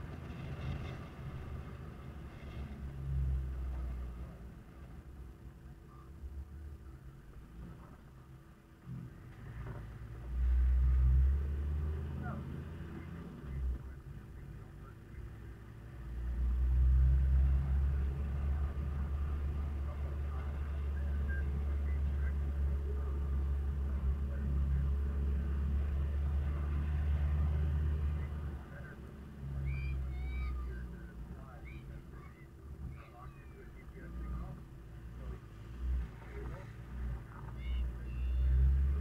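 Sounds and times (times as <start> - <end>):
diesel engine rumble: 0.0 - 39.0
tyres on dirt track: 0.0 - 39.0.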